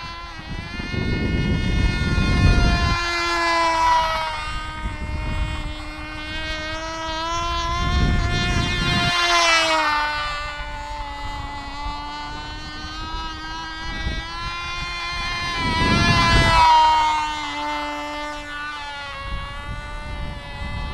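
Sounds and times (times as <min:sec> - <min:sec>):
model plane engine buzzing: 0:00.0 - 0:20.9
wind rumbling on microphone: 0:00.0 - 0:20.9.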